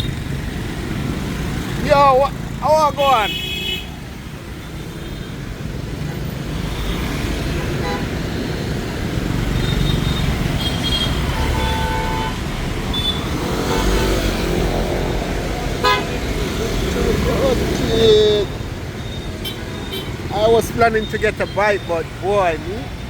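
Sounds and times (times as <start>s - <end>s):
motorbike traffic rumble: 0.0s - 23.0s.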